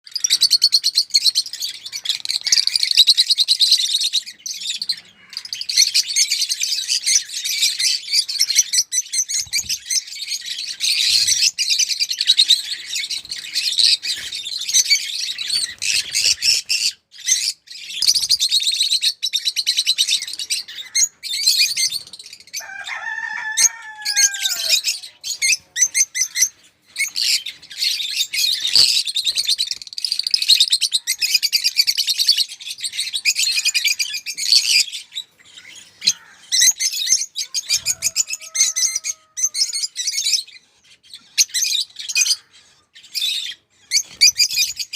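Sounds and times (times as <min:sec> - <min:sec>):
high-pitched bird chirping: 0:00.1 - 0:22.6, 0:23.7 - 0:44.9.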